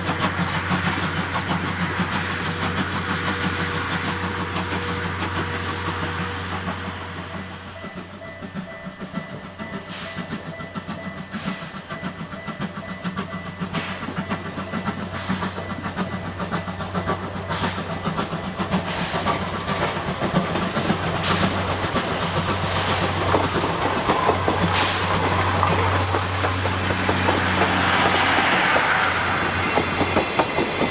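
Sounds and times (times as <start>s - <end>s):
steam locomotive train clattering: 0.0s - 30.9s.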